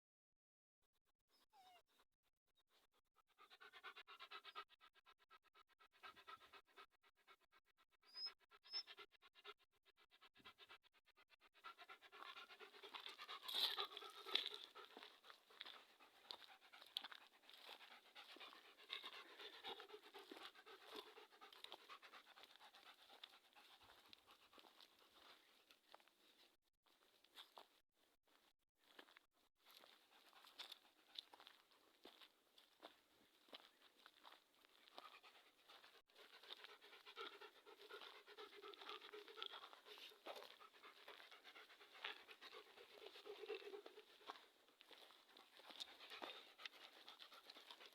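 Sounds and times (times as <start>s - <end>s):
dog panting: 2.7s - 26.5s, 29.6s - 47.9s.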